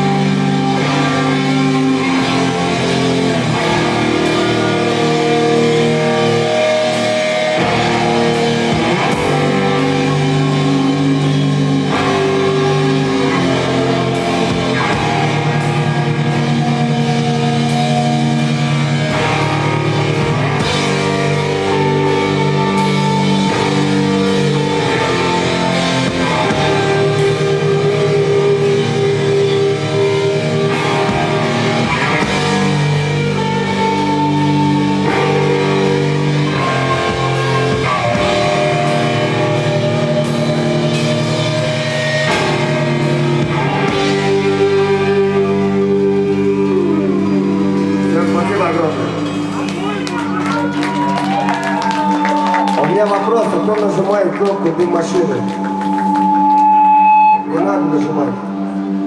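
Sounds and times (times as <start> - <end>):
drums: 0.0 - 59.0
guitars sustained chords: 0.0 - 59.0
rock band playing: 0.0 - 59.0.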